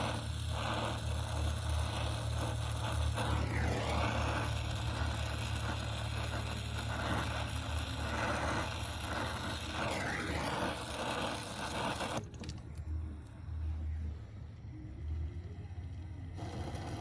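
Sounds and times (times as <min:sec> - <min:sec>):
torch flame hissing: 0:00.0 - 0:13.3, 0:16.0 - 0:17.0
steady low hum: 0:00.0 - 0:17.0.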